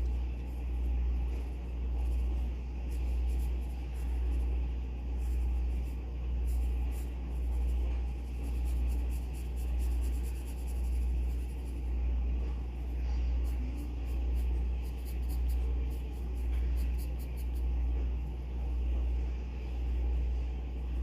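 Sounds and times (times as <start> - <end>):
pencil scratching on paper: 0.0 - 17.8
loud low hum: 0.0 - 21.0.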